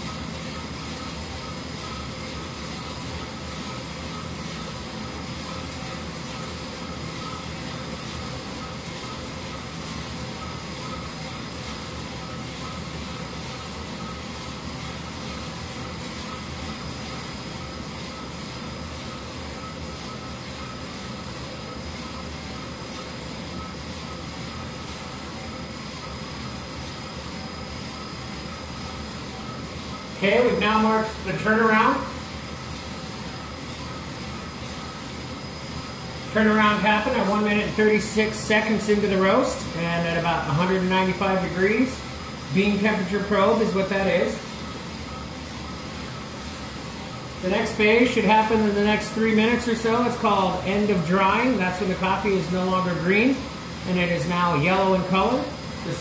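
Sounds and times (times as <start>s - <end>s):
coffee roaster drum rushing: 0.0s - 56.0s
faint humming tones: 0.0s - 56.0s.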